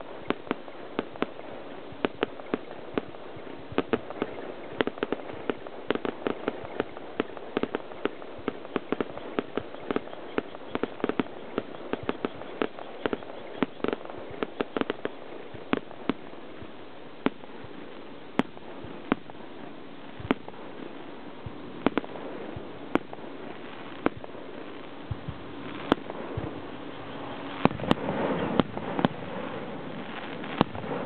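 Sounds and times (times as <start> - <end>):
firework shells bursting: 0.0 - 31.0.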